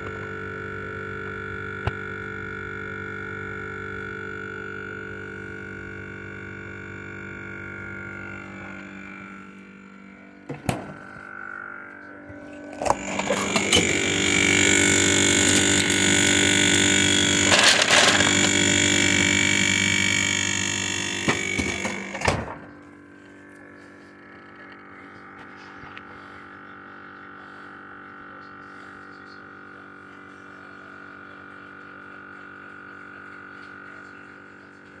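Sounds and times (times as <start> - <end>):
refrigerator humming: 0.0 - 35.0.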